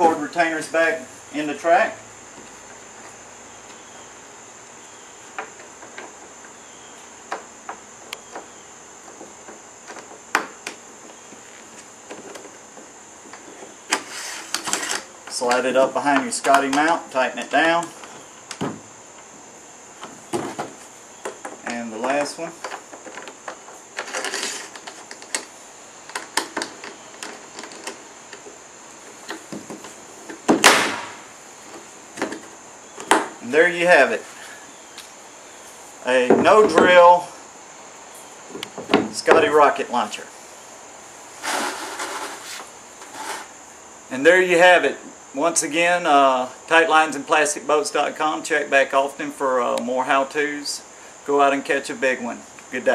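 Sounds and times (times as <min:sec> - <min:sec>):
steady high-pitched hiss: 0:00.0 - 0:52.9.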